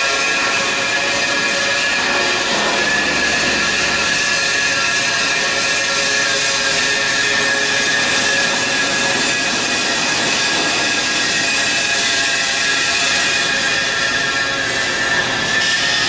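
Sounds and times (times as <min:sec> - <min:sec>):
high whining tones: 0:00.0 - 0:16.0
loud machinery noise: 0:00.0 - 0:16.0.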